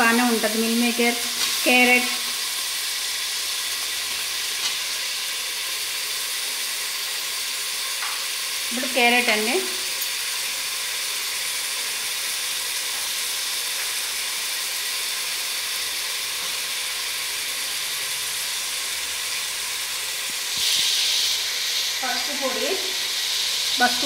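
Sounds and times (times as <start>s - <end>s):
vegetables sizzling in hot oil: 0.0s - 24.0s.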